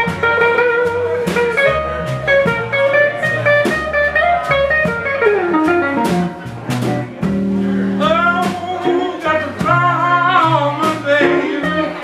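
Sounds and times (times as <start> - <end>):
bending guitar lead line: 0.0 - 12.0
live blues band playing: 0.0 - 12.0.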